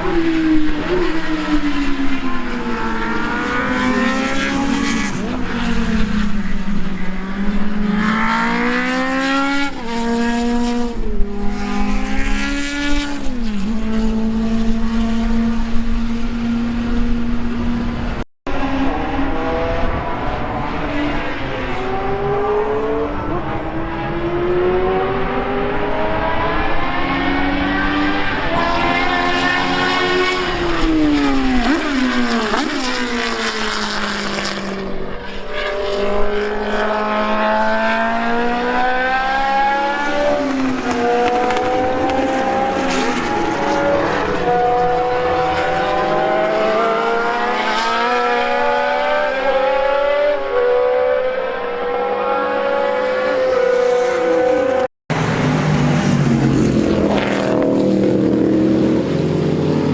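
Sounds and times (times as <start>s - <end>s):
racing car engines accelerating: 0.0s - 59.9s.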